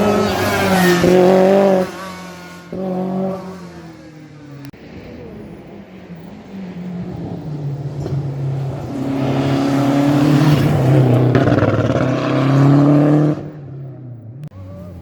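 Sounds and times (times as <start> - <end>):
rally car engine at high revs: 0.0 - 4.5, 6.4 - 14.2.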